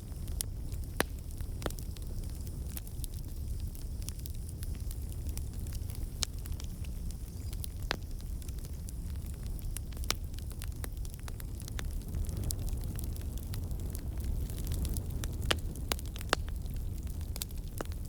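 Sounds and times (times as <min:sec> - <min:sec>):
burning wood crackling and popping: 0:00.0 - 0:18.0
campfire flames rumbling: 0:00.0 - 0:18.0.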